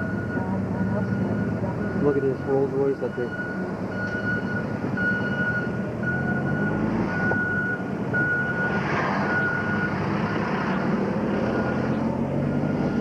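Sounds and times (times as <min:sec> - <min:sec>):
vehicle warning beeper: 0:00.0 - 0:10.4, 0:11.4 - 0:13.0
vehicle engine hum: 0:00.0 - 0:13.0.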